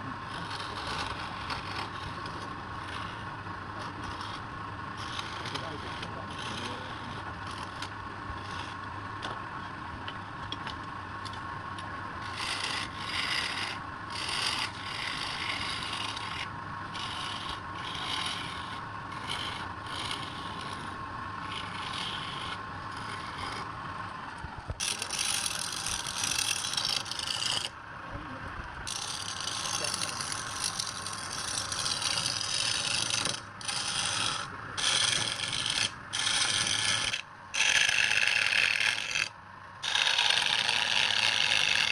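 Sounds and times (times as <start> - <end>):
tool rasping on spinning wood: 0.0 - 9.9, 11.8 - 27.8, 28.8 - 41.9
wood lathe humming: 0.0 - 41.9.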